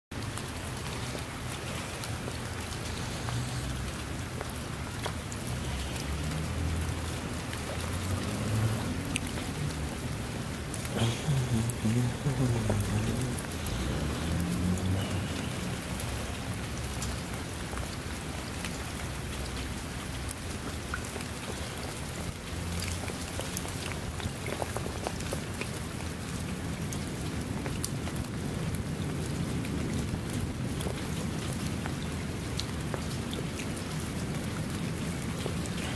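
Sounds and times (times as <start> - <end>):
rain drops ticking in puddle: 0.1 - 35.9
steady rain on wet ground: 0.1 - 35.9.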